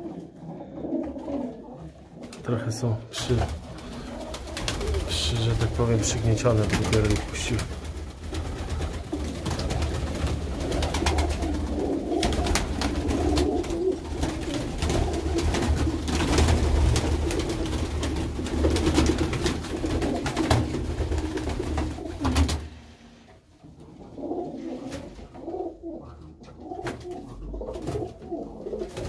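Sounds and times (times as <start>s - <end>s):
pigeons cooing: 0.0s - 5.8s, 8.6s - 22.6s, 23.9s - 29.0s.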